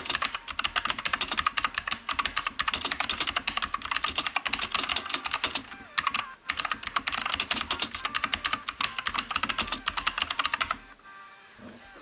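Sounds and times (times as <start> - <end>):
typing on mechanical keyboard: 0.0 - 10.8.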